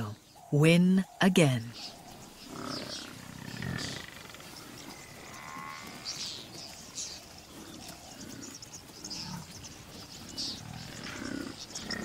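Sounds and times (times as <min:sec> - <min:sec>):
open-air ambience: 0:00.0 - 0:12.0.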